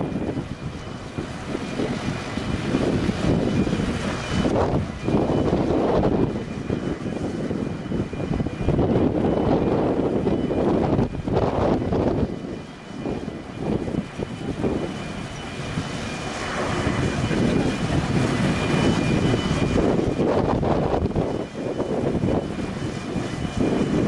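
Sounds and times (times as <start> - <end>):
faint high whine: 0.0 - 24.0
ship engines and thrusters roaring: 0.0 - 24.0
wind buffeting microphone: 0.0 - 24.0.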